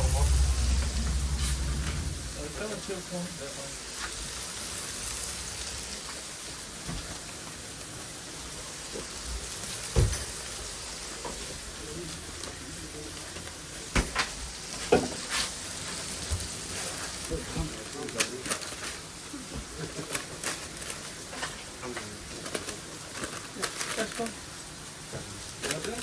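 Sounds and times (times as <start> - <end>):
burger patties sizzling: 0.0 - 26.0.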